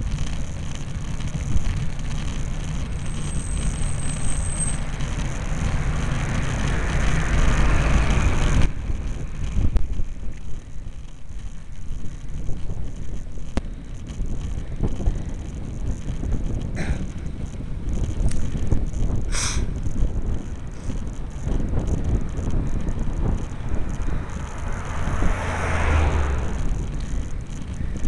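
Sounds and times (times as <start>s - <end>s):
bicycle rattling: 0.0s - 28.0s
wind rushing over microphone: 0.0s - 28.0s.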